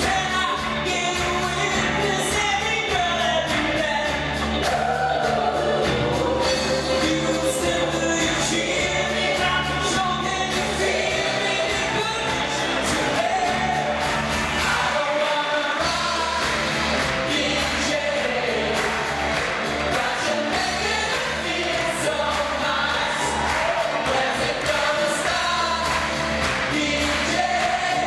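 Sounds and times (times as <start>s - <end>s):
live band with drums and guitars: 0.0s - 28.0s
large choir singing: 4.4s - 28.0s.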